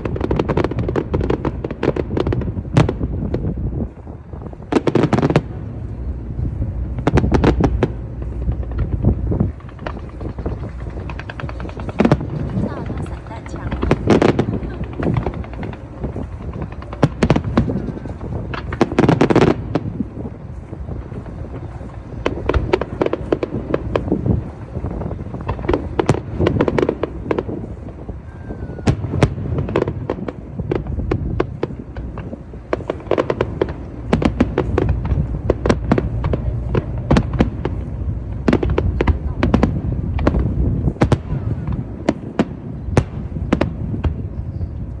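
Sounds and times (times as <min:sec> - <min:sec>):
low rumble: 0:00.0 - 0:45.0.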